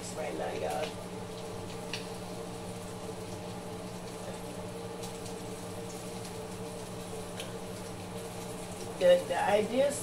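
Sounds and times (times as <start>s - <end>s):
batter sizzling in a skillet: 0.0s - 10.0s
low steady hum: 0.0s - 10.0s.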